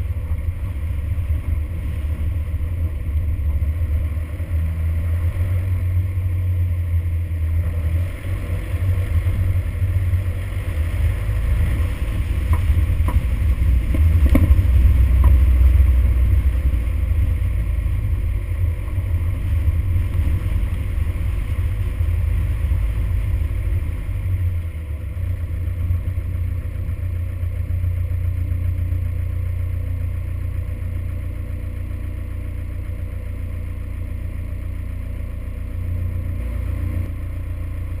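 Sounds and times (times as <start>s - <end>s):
truck driving on gravel: 0.0s - 38.0s.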